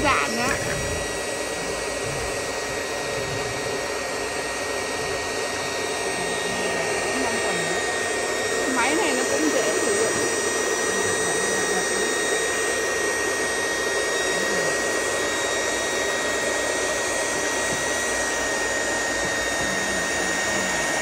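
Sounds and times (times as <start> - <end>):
cloth cutting machine whining: 0.0 - 21.0.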